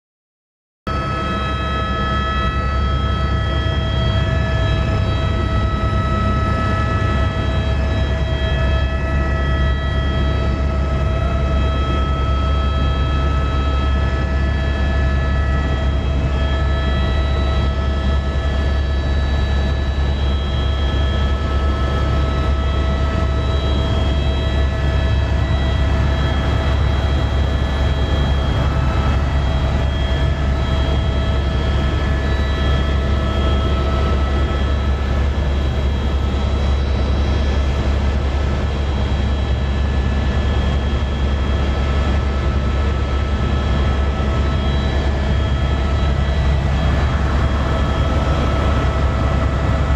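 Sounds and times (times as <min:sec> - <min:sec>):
helicopter rotor and engine drone: 0:00.9 - 0:49.9
whining tones: 0:00.9 - 0:49.9.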